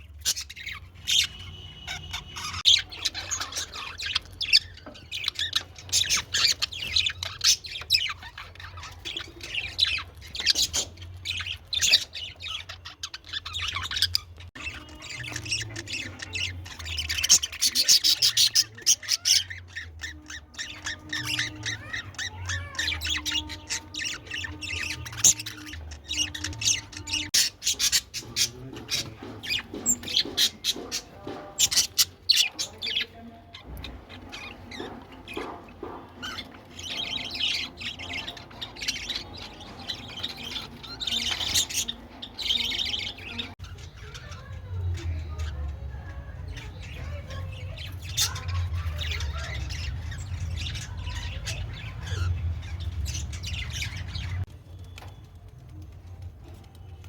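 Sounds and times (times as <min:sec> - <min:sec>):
birds squawking and chirping: 0:00.0 - 0:57.0.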